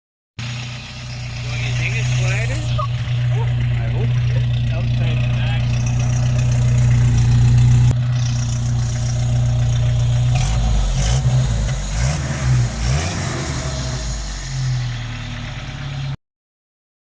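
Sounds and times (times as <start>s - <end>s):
car engine idling and revving: 0.4s - 16.2s.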